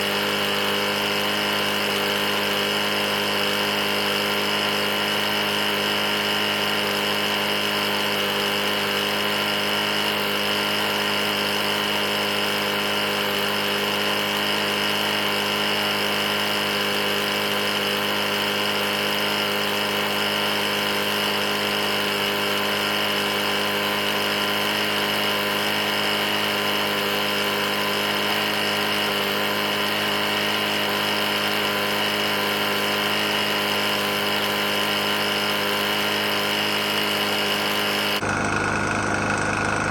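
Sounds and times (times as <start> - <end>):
mower engine knocking: 0.0 - 39.9.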